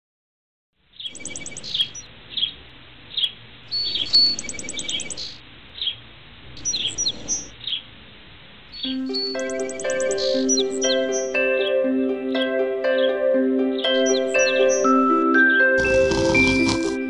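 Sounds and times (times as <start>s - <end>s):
birds chirping and trilling: 0.9s - 17.0s.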